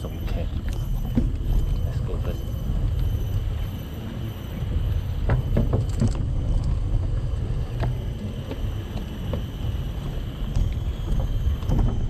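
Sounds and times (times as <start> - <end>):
bicycle tyres rolling on boardwalk: 0.0 - 12.0.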